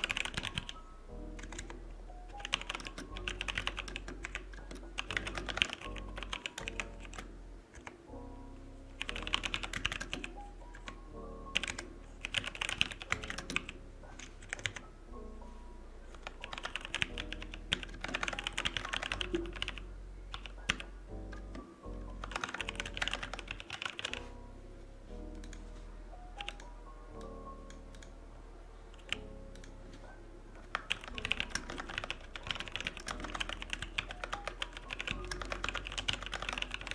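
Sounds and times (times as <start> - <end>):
typing on computer keyboard: 0.0 - 8.0, 9.0 - 14.8, 16.1 - 24.2, 26.4 - 28.1, 28.9 - 29.7, 30.7 - 36.9
soft background music: 0.0 - 36.9.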